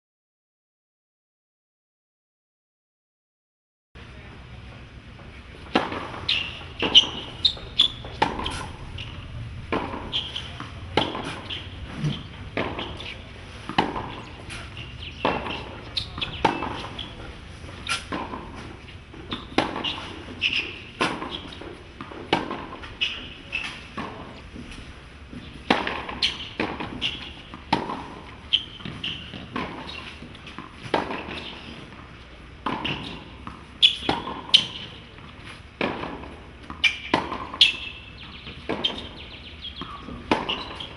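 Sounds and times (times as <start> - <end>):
tennis ball bouncing on hard court: 5.6 - 40.9
tennis ball struck by rackets: 5.6 - 40.9.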